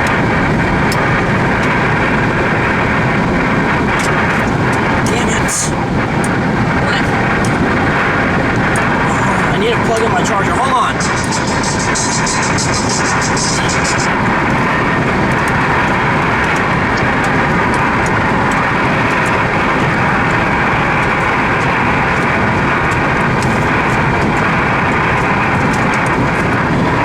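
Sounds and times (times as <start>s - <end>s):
road and wind noise in car: 0.0s - 27.0s.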